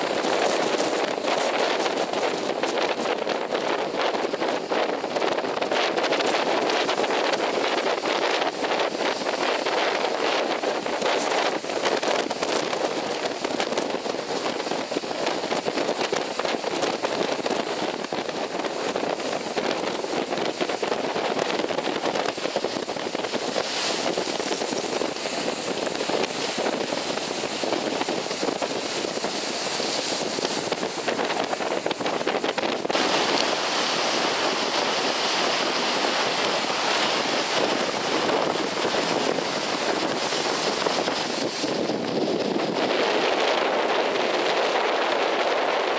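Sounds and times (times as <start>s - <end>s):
sea surf breaking on concrete: 0.0s - 45.9s.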